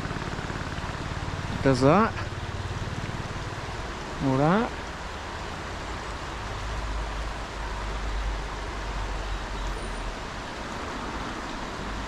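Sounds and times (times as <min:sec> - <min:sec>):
deep road rumble: 0:00.0 - 0:12.0.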